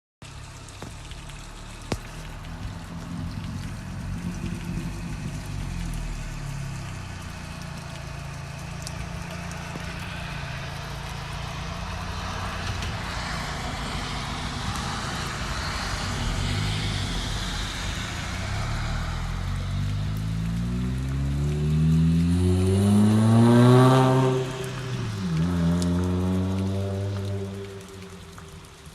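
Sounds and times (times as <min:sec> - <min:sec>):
car engine at low revs: 0:00.2 - 0:28.9.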